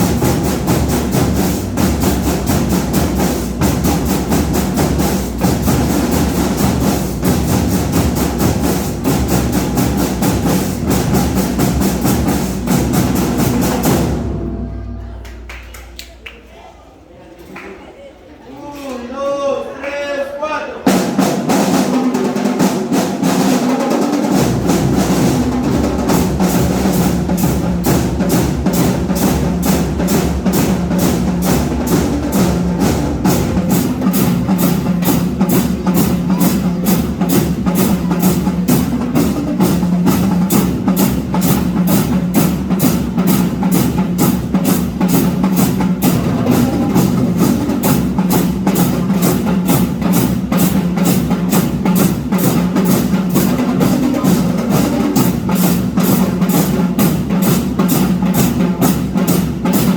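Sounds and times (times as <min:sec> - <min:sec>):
snare and bass drums beating: 0:00.0 - 0:14.6, 0:20.9 - 0:59.9
marching band playing: 0:00.0 - 0:15.9, 0:20.8 - 0:59.9.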